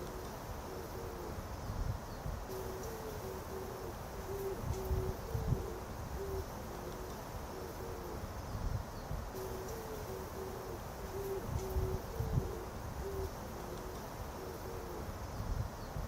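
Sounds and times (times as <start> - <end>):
pigeons cooing: 0.0 - 1.5, 2.4 - 8.4, 9.3 - 15.2.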